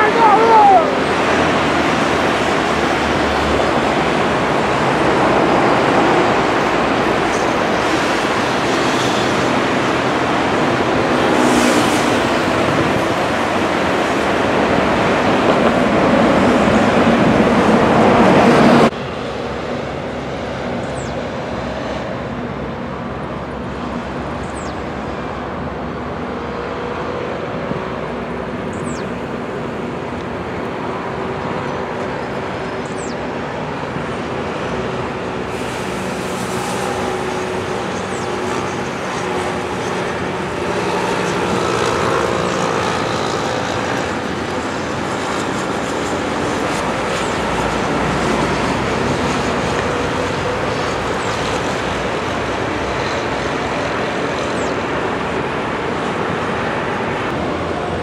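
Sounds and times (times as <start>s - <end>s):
jet engines with faint whine: 0.0s - 58.0s.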